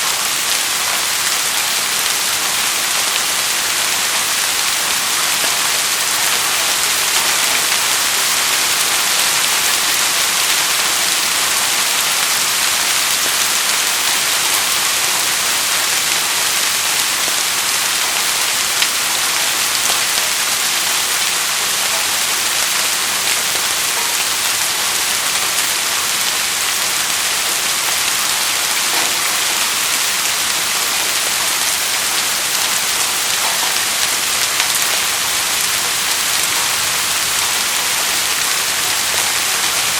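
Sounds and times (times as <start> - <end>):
steady rain hiss: 0.0 - 39.9
rain drop ticks: 0.1 - 39.9.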